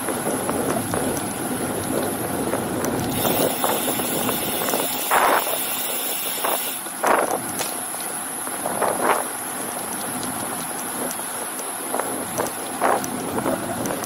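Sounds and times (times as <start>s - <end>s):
wind and bicycle riding noise: 0.0s - 14.0s.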